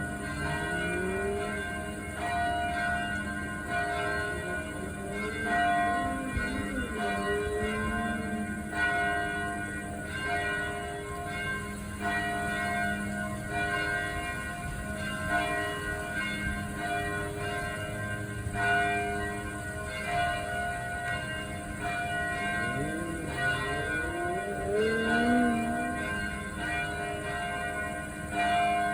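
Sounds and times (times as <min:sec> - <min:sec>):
church bell ringing: 0:00.0 - 0:28.9.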